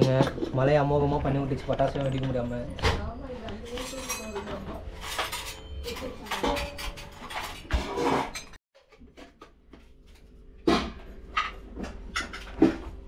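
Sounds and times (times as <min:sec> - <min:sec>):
dishes and utensils clinking: 0:00.0 - 0:09.4, 0:10.7 - 0:13.0.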